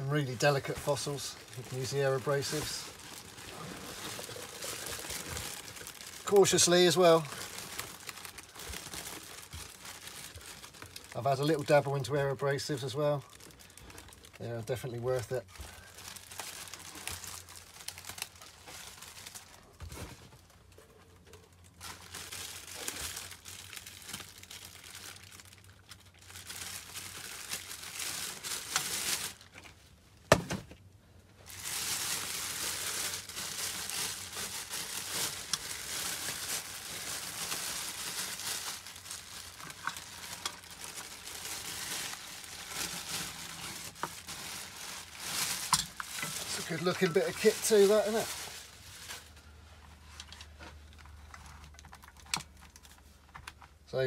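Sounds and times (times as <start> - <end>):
plastic bag crinkling: 0.0 - 29.9, 31.4 - 53.6.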